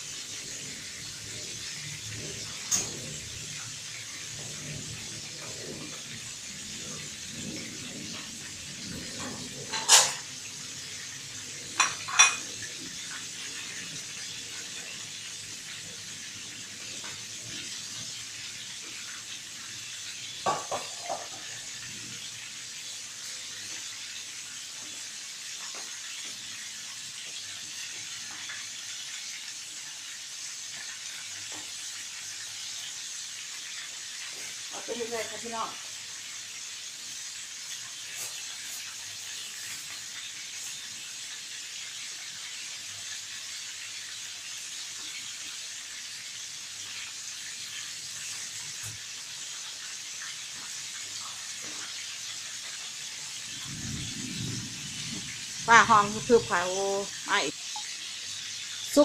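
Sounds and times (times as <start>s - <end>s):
oil sizzling: 0.0s - 59.0s.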